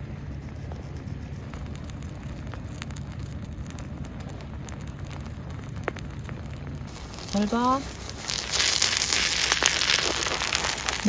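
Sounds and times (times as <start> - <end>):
batter sizzling in oil: 0.1 - 11.0.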